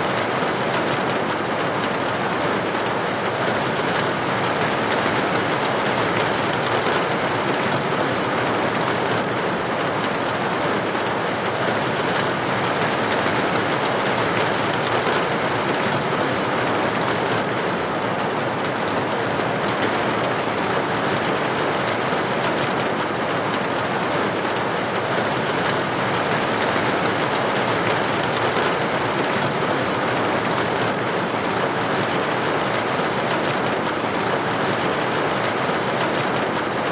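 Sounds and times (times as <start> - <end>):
rain pattering on window glass: 0.0 - 36.9.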